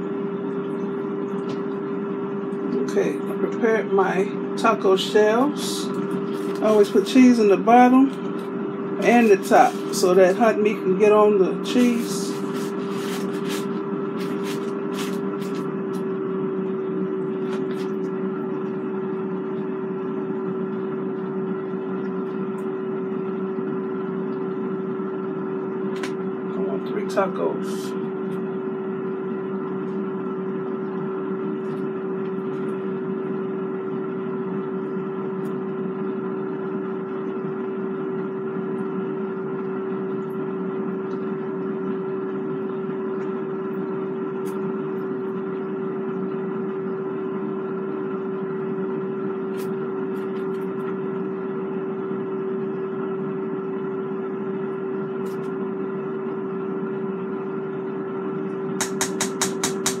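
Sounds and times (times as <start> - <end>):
air fryer fan hum: 0.0 - 60.0.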